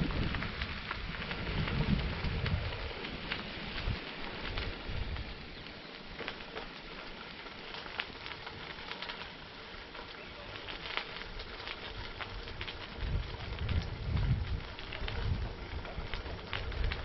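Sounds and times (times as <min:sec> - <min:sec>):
bicycle tyres rolling on gravel: 0:00.0 - 0:17.0.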